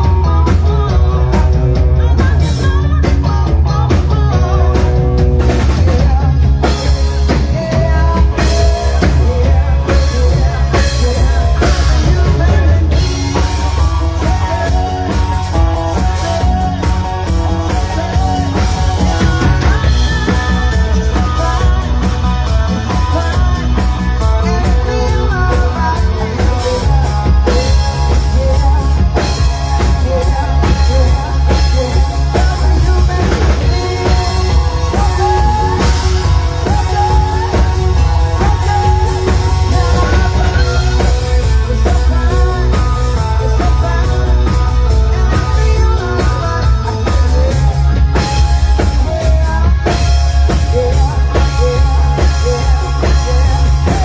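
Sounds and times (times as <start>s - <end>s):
drum kit: 0.0s - 54.0s
guitar: 0.0s - 54.0s
heavy bass line: 0.0s - 54.0s.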